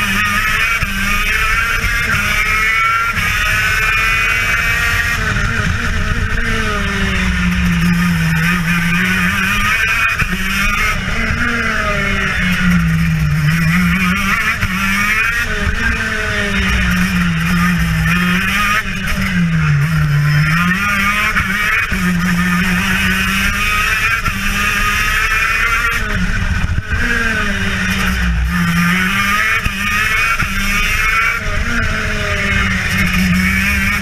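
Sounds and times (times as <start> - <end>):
two-stroke kart engine revving: 0.0 - 34.0.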